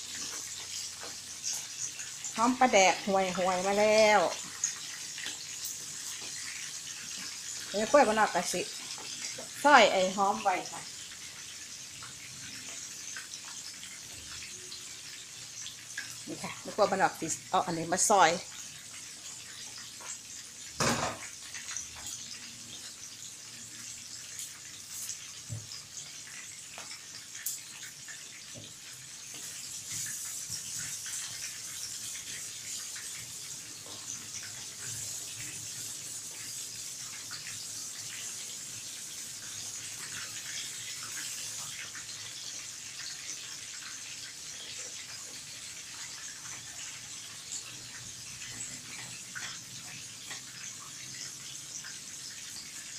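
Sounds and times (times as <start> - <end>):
fish frying in hot oil: 0.0 - 52.9.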